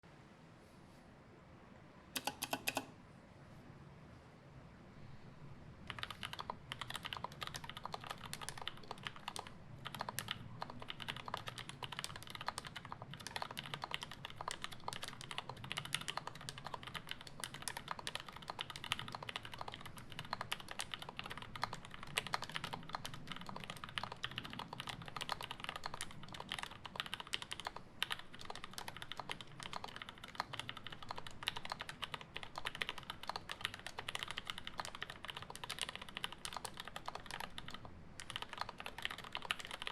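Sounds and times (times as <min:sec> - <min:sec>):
mechanical keyboard typing: 0:02.2 - 0:02.9, 0:05.9 - 0:39.9.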